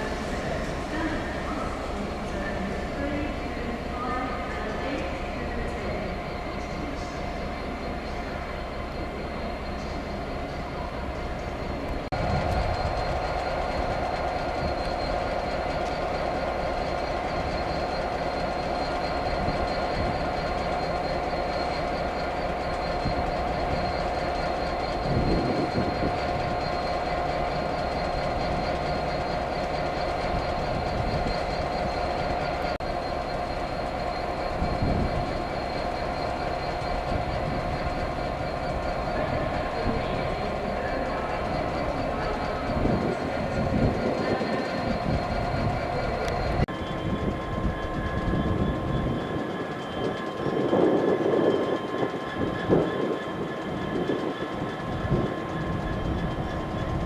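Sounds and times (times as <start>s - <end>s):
train rumble inside carriage: 0.0s - 57.0s.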